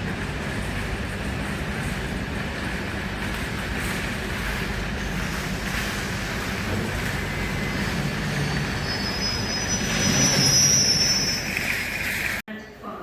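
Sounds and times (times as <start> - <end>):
train wheels rumbling on rails: 0.0 - 12.4.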